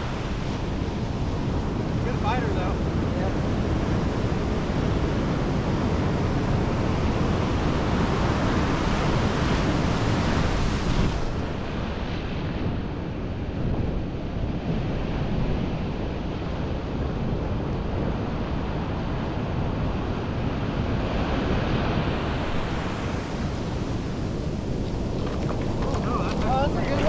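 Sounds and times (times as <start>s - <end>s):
ocean surf washing on beach: 0.0s - 27.0s
wind buffeting microphone: 0.0s - 27.0s.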